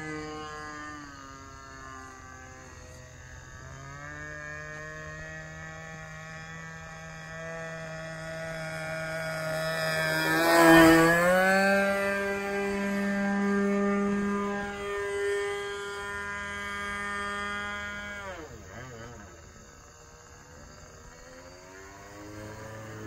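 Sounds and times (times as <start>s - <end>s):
model plane engine buzzing: 0.0s - 23.0s.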